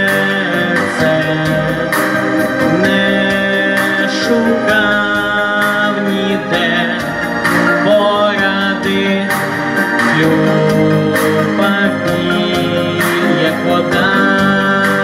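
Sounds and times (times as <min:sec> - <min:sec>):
instrumental backing track: 0:00.0 - 0:15.0
young man singing: 0:00.0 - 0:15.0.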